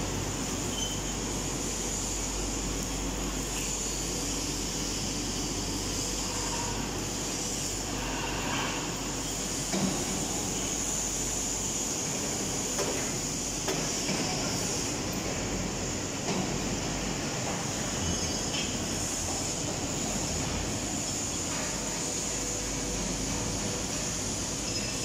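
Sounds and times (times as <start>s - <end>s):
machinery hum and hiss: 0.0s - 25.0s.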